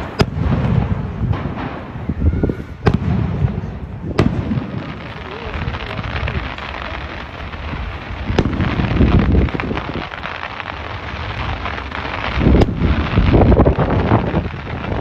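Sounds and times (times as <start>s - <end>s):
firework bang: 0.0s - 15.0s
fireworks crackling and booming: 0.0s - 15.0s.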